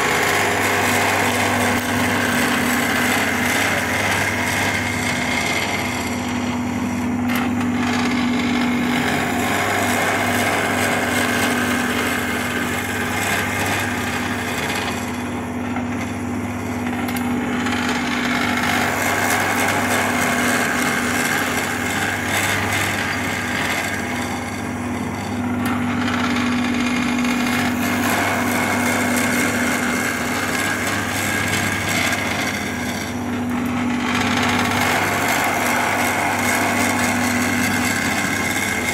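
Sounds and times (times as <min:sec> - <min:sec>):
lathe motor hum: 0:00.0 - 0:38.9
turning tool scraping wood: 0:00.0 - 0:38.9.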